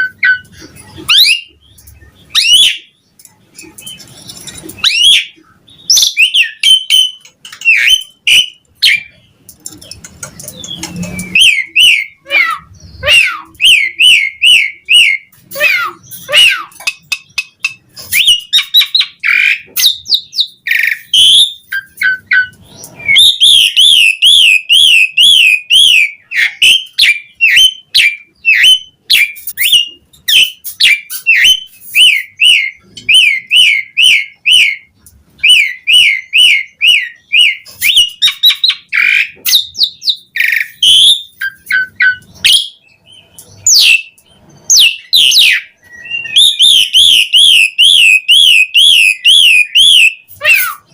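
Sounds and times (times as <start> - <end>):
starling singing: 0.0 - 50.9.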